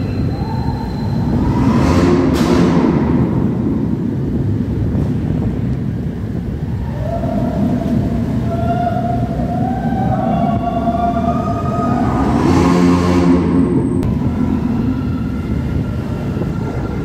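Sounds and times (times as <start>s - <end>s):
motorcycle engine whine: 0.0s - 17.0s
road and wind noise: 0.0s - 17.0s.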